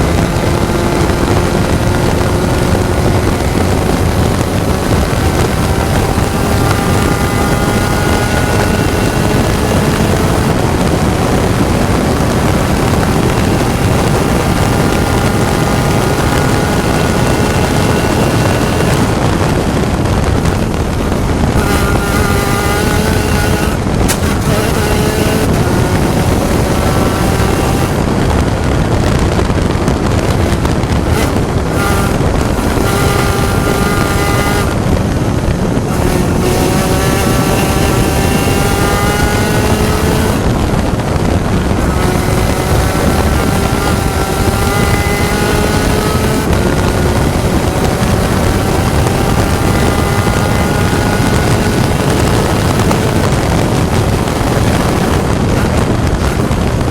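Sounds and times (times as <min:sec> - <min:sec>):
race car engine revving: 0:00.0 - 0:56.9
wind noise on microphone: 0:00.0 - 0:56.9.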